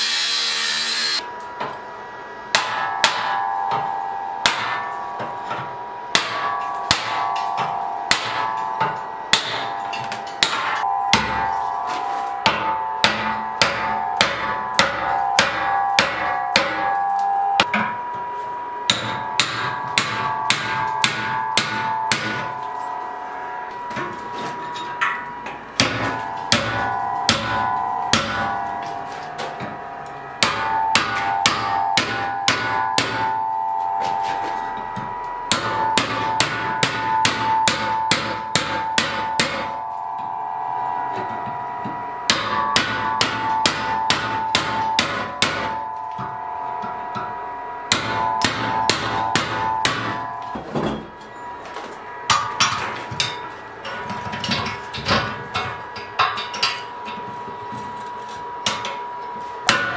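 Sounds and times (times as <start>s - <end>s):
hammer striking chisel on metal: 2.5s - 23.0s, 23.7s - 51.4s, 52.3s - 59.9s.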